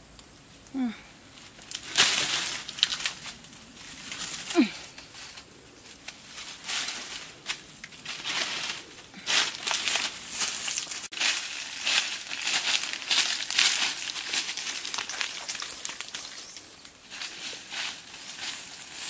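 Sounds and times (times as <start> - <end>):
dry leaves crunching: 1.3 - 19.0.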